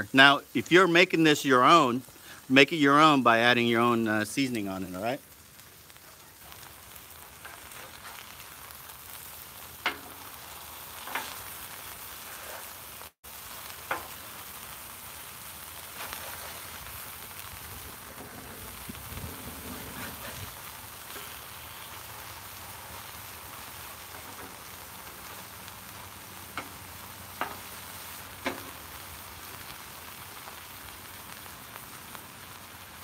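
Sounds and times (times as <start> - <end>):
burger patties sizzling on griddle: 0.0 - 33.0.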